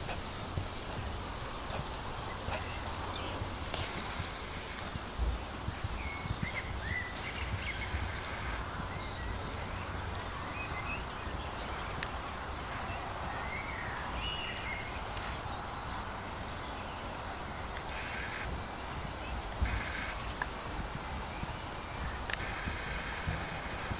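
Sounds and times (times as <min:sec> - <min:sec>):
hoofbeats thudding: 0:00.0 - 0:16.5, 0:17.8 - 0:23.9
birds chirping: 0:00.0 - 0:23.9
low wind rumble: 0:00.0 - 0:23.9.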